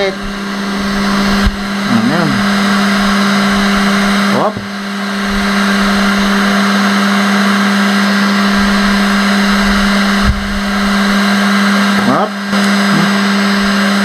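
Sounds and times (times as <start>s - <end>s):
heat gun fan hum: 0.0s - 14.0s.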